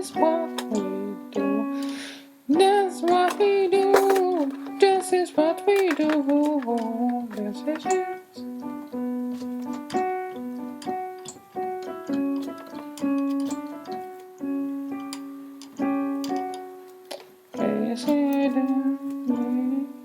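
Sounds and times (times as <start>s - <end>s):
piano melody of single notes: 0.0s - 20.0s.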